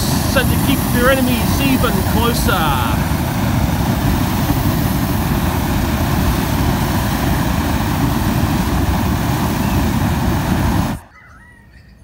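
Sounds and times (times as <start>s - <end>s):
flamethrower rush of flame: 0.0s - 11.1s.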